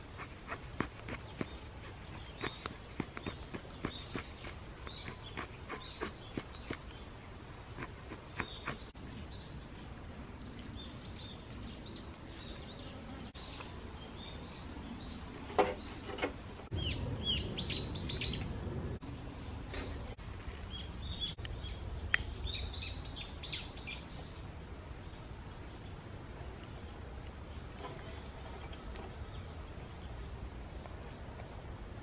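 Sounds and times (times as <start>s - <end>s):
small birds chirping: 0.0s - 31.6s.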